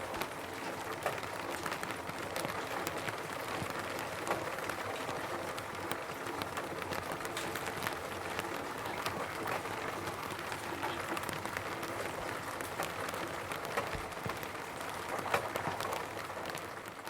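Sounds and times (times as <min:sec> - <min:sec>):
rain pattering on a roof: 0:00.0 - 0:17.0.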